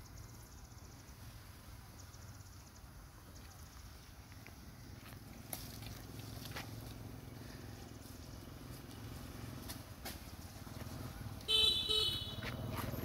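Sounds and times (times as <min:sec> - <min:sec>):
high insect chirps: 0:00.0 - 0:12.4.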